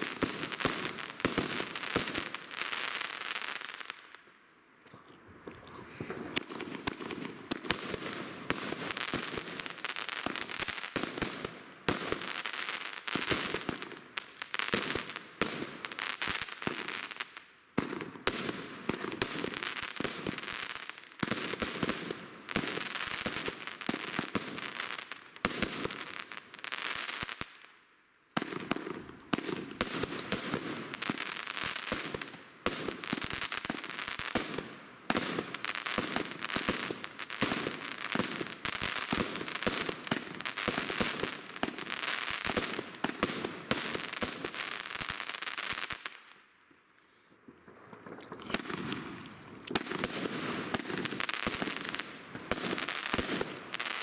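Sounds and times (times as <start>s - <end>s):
fireworks bursts and crackling: 0.0s - 4.2s, 5.3s - 46.5s, 47.4s - 54.0s.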